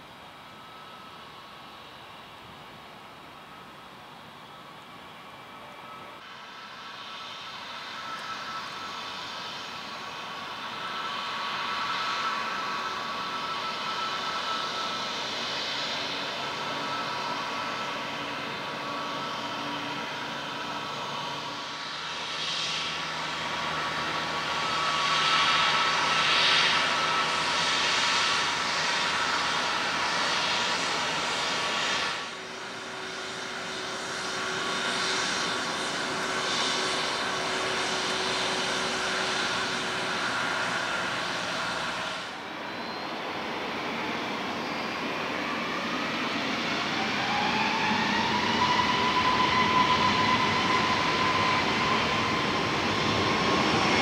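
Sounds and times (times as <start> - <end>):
jet engines whining: 3.4 - 54.0.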